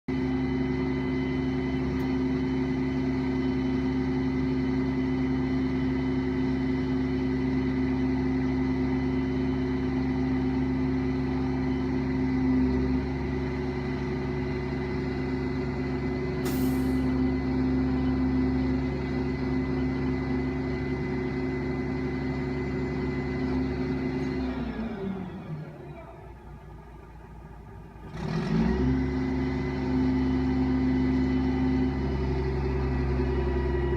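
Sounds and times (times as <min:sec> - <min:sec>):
garbage truck engine droning: 0:00.1 - 0:33.9.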